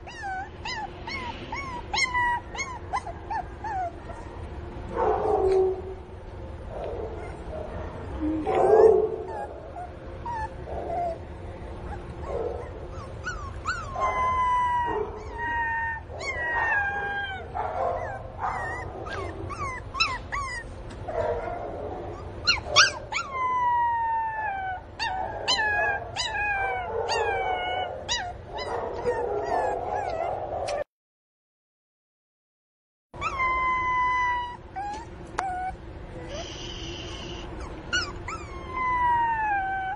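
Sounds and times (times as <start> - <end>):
puppy whining and yelping: 0.0 - 4.5, 7.1 - 30.8, 33.2 - 39.9.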